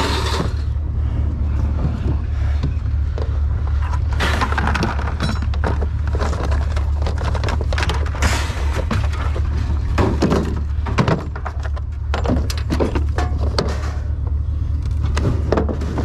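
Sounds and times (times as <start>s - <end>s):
steady low rumble: 0.0s - 16.0s
scrap items knocking and rattling: 1.8s - 14.3s, 15.1s - 16.0s.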